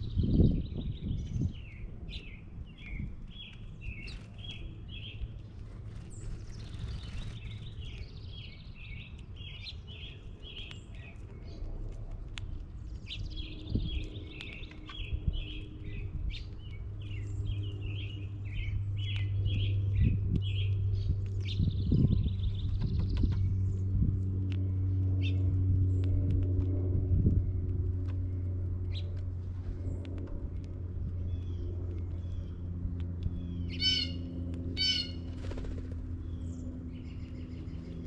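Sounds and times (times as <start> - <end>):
low steady rumble: 0.0 - 38.0
small birds chirping: 0.0 - 38.0.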